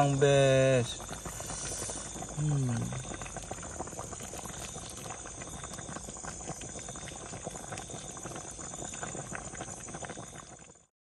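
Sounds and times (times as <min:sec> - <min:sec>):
curry bubbling in a pan: 0:00.0 - 0:10.9
ladle pouring gravy: 0:00.0 - 0:10.9.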